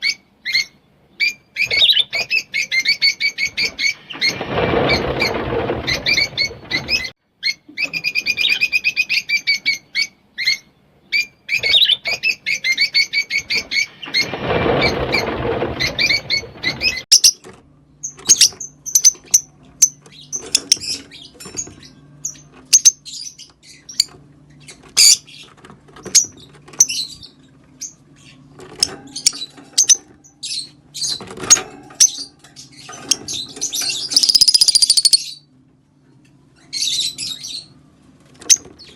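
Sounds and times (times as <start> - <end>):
lovebirds chirping: 0.0 - 31.2, 32.0 - 35.5.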